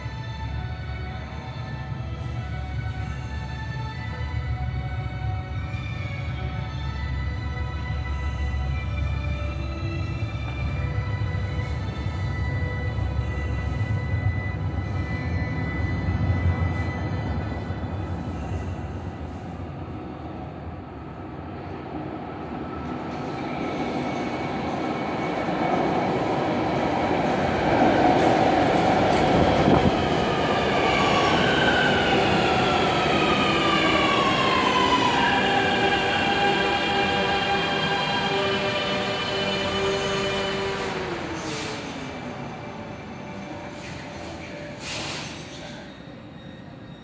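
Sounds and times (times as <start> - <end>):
train arriving and braking: 0.0 - 47.0.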